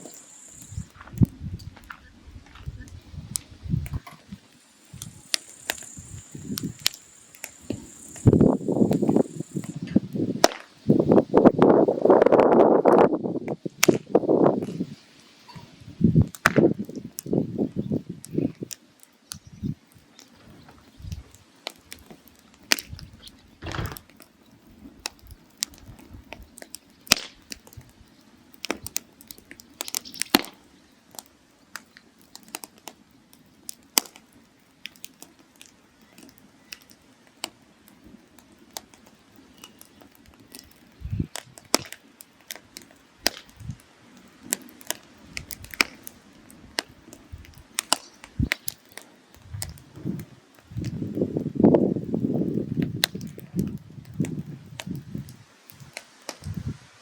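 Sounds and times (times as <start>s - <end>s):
firewood crackling and popping: 0.0s - 57.0s.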